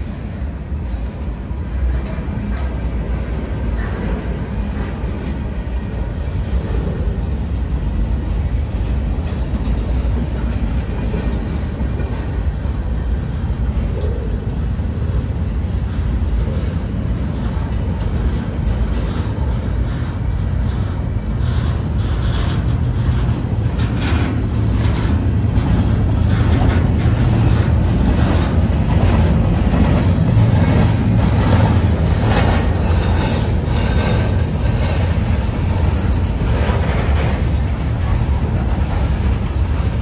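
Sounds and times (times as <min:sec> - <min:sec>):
clicking and clanking over track: 0:00.0 - 0:40.0
train wheels rumbling on rails: 0:00.0 - 0:40.0.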